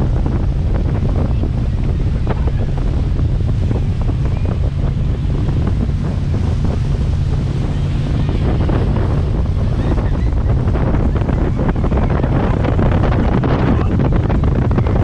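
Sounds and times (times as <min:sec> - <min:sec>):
water rushing and splashing: 0:00.0 - 0:15.0
wind buffeting microphone: 0:00.0 - 0:15.0.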